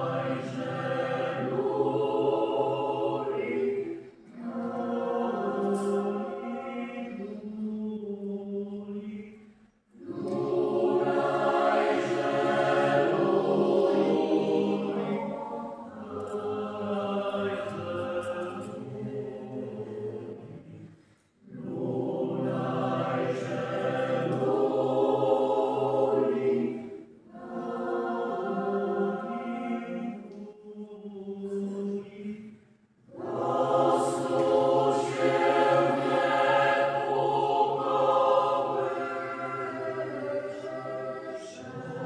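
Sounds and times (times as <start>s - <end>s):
mixed choir singing: 0.0s - 42.0s.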